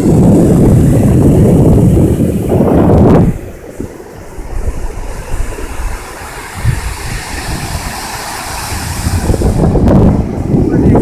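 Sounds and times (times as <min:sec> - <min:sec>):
waves washing onto beach: 0:00.0 - 0:11.0
wind rumble on microphone: 0:00.0 - 0:11.0.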